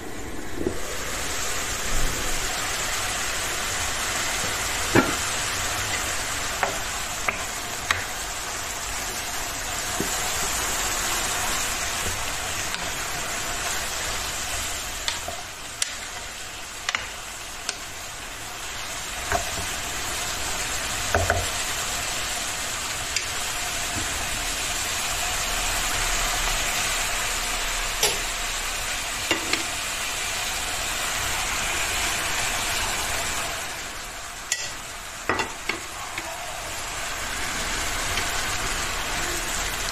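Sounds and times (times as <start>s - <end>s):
vegetables sizzling in oil: 0.0s - 39.9s.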